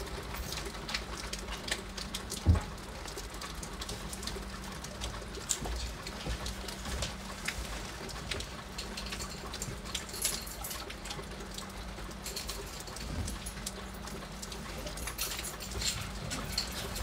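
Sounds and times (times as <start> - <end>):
heavy rain on a window: 0.0 - 17.0.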